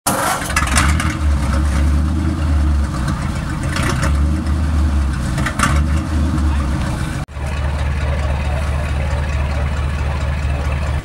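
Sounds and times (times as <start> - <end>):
engine idling: 0.1 - 11.0.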